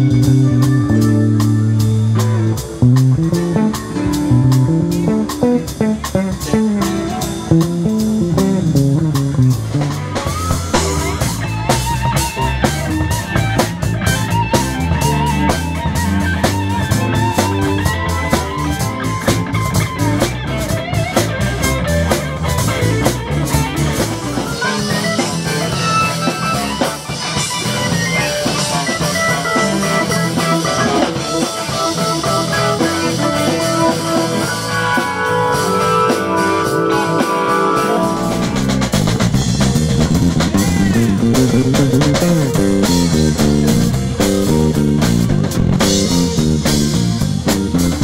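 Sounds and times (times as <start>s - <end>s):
drum kit: 0.0s - 48.0s
electric guitar: 0.0s - 48.0s
rock band playing: 0.0s - 48.0s.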